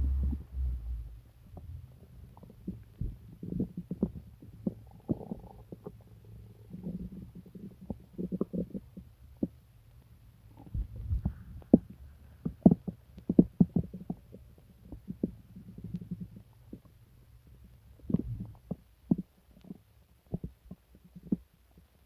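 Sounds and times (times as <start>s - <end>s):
stomach gurgling and popping: 0.0s - 22.0s.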